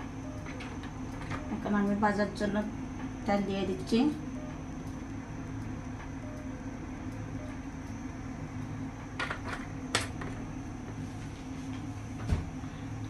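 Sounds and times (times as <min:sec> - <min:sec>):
gas stove burner humming: 0:00.0 - 0:13.0.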